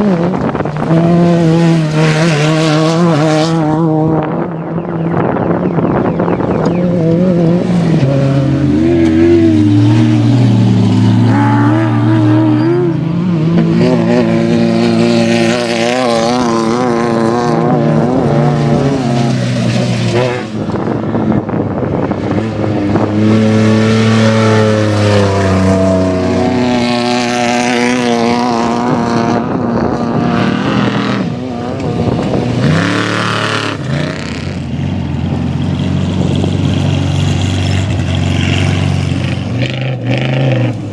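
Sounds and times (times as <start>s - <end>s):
race vehicle engines revving: 0.0s - 40.9s.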